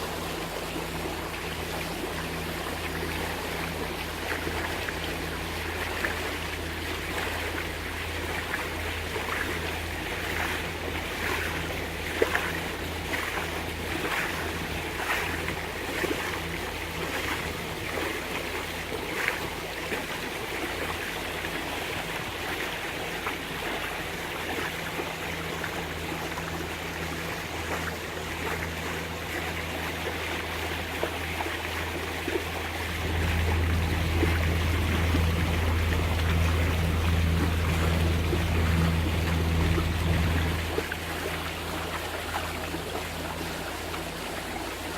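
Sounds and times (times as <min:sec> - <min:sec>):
boat engines humming: 0:00.0 - 0:44.9
water splashing against hulls: 0:00.2 - 0:44.9.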